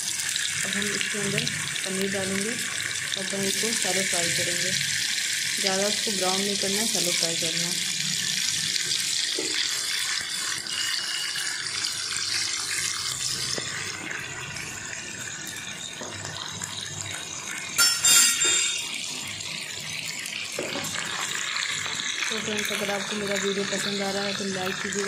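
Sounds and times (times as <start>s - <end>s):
cheese sizzling in hot oil: 0.0s - 25.0s.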